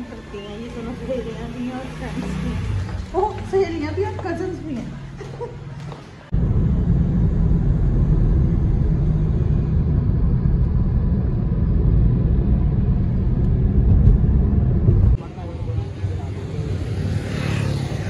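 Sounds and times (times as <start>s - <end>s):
car engine and road noise: 0.0s - 4.8s, 5.9s - 18.0s.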